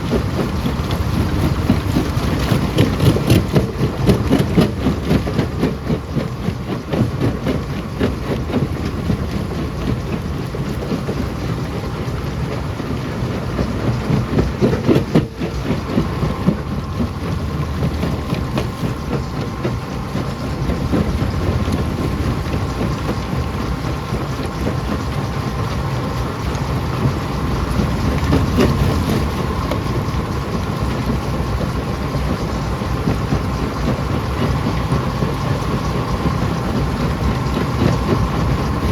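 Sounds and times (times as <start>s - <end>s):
heavy machine rumble: 0.0s - 38.9s
steady machine whine: 0.0s - 38.9s.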